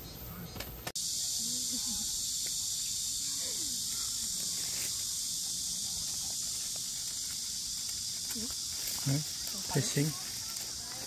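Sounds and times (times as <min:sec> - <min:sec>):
insect chorus shrill drone: 0:00.0 - 0:11.0.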